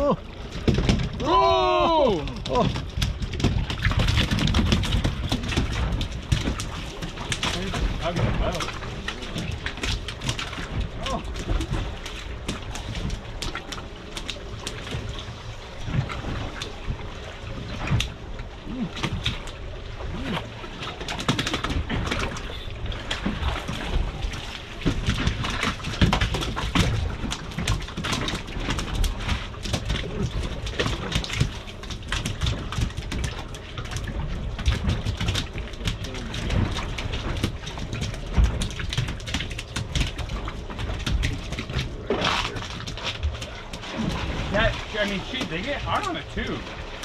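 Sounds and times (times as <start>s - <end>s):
water lapping against boat hull: 0.0s - 47.0s.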